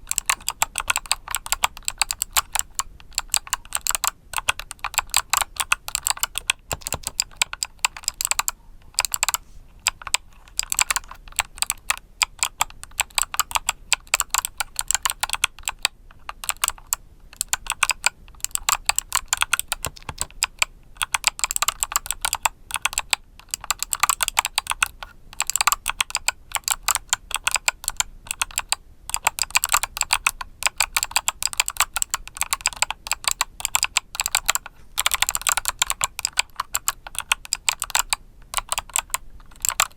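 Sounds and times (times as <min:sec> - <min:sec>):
mechanical keyboard key clicks: 0:00.1 - 0:39.9.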